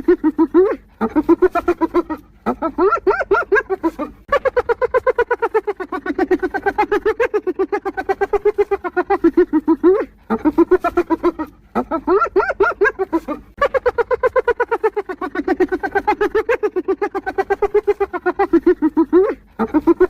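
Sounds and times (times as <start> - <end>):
hyena giggling: 0.0 - 20.0.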